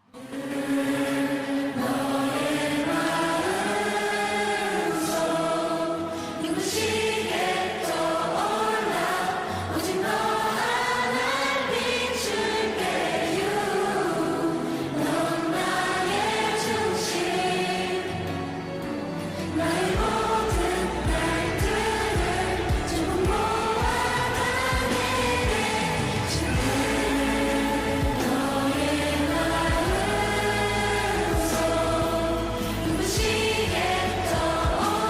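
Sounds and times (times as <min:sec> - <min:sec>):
chorus of singing voices: 0:00.0 - 0:35.0
music: 0:00.0 - 0:35.0.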